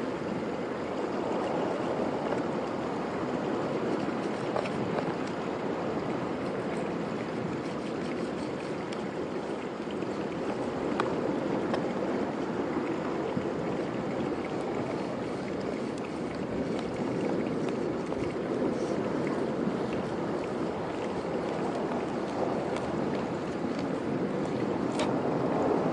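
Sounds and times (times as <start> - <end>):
sea surf on rocky shore: 0.0 - 25.9.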